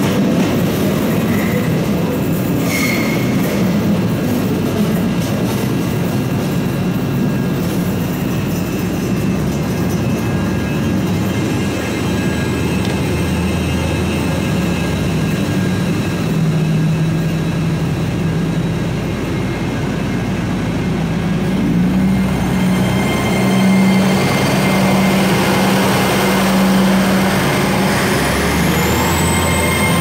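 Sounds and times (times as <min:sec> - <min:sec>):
electric train whine: 0:00.0 - 0:30.0
train engine hum: 0:00.0 - 0:30.0.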